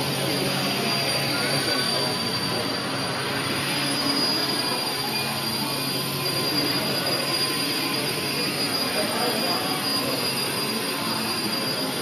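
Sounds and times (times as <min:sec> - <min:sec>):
rc helicopter motor whining: 0:00.0 - 0:12.0
whooshing rotor noise: 0:00.0 - 0:12.0.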